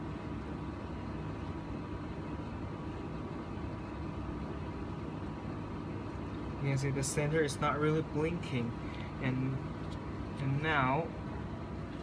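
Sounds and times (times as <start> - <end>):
faint steady whine: 0.0 - 12.0
low rumble and hiss of room noise: 0.0 - 12.0.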